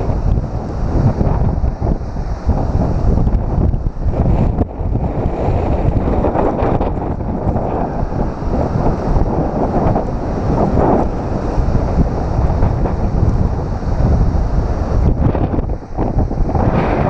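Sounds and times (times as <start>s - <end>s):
surf washing against rocks: 0.0s - 17.0s
wind buffeting microphone: 0.0s - 17.0s.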